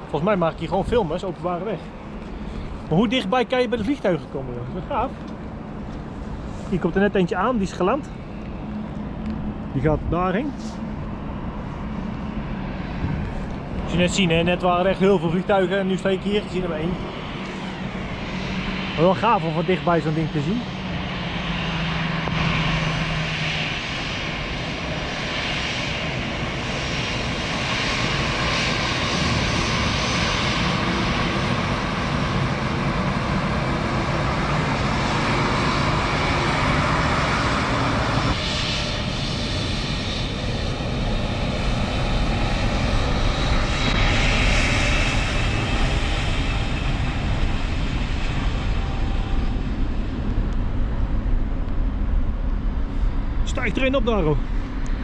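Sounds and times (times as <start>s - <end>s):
airliner engines running: 0.0s - 55.0s.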